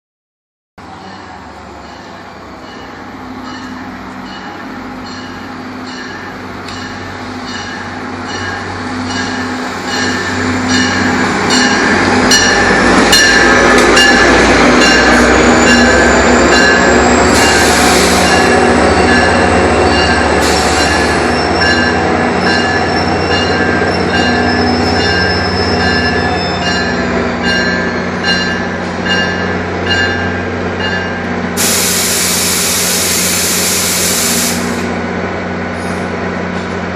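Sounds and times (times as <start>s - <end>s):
train rumble: 0.8s - 36.9s
warning bell ringing: 1.0s - 31.3s.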